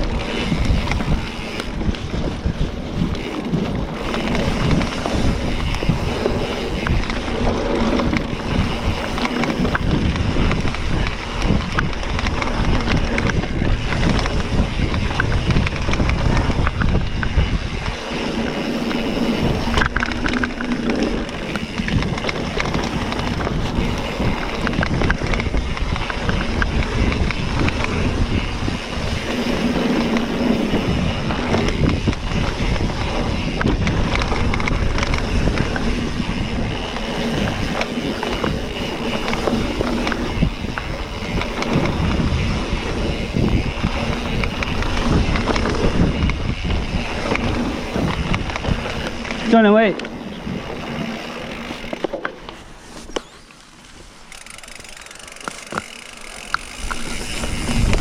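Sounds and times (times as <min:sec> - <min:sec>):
bike knocks and clicks: 0:00.0 - 0:58.0
low rumble of bike rolling: 0:00.0 - 0:58.0
wind buffeting microphone: 0:00.0 - 0:58.0.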